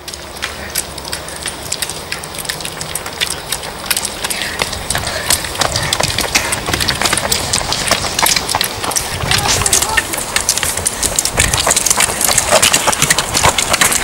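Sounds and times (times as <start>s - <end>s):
footsteps on dry grass and dirt: 0.0s - 14.0s
steady low rumble: 0.0s - 14.0s.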